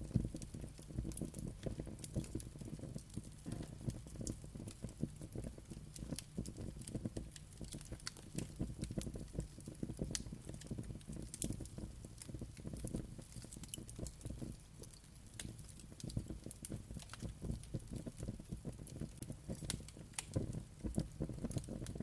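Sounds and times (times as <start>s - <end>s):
fire crackling and popping: 0.0s - 22.0s
low rumble of flame: 0.0s - 22.0s.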